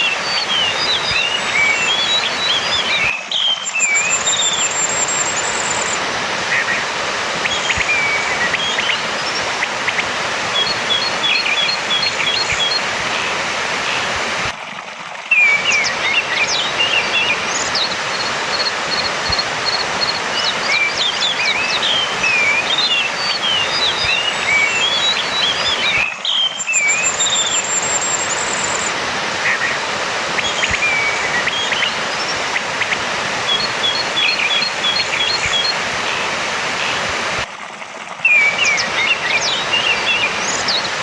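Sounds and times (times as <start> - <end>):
thrush singing: 0.0 - 14.5, 15.3 - 37.4.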